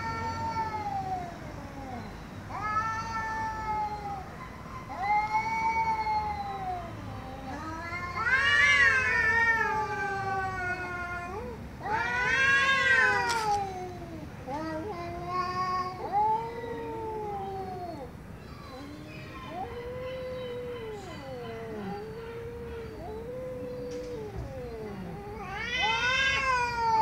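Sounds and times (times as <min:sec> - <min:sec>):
cats yowling: 0:00.0 - 0:27.0.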